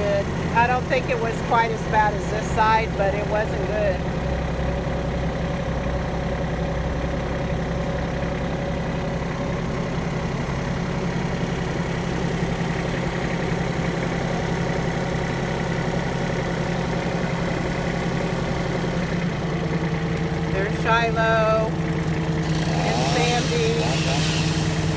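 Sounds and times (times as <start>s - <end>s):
heavy engine running: 0.0s - 24.9s.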